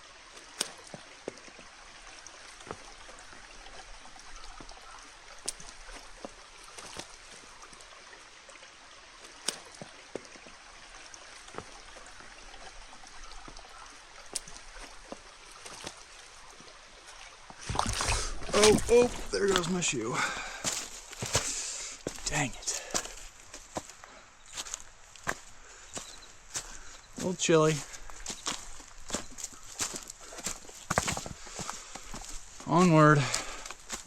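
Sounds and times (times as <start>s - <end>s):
creek water running over rocks: 0.0s - 34.0s.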